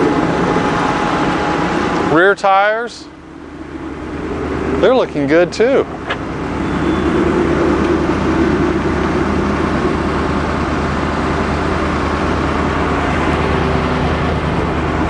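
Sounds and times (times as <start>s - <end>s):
broad rushing noise: 0.0s - 15.0s
bus engine idling: 0.0s - 15.0s
mid-pitched drone: 0.0s - 15.0s.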